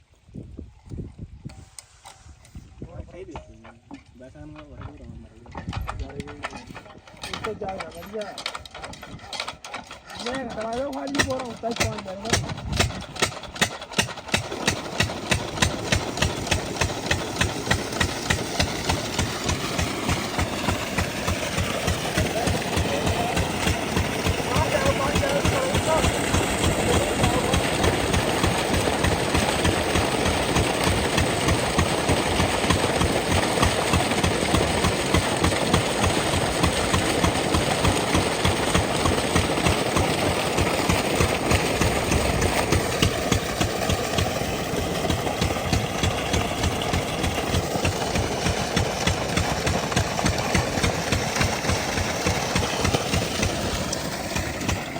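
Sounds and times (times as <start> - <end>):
diesel engine chugging: 6.2 - 54.9.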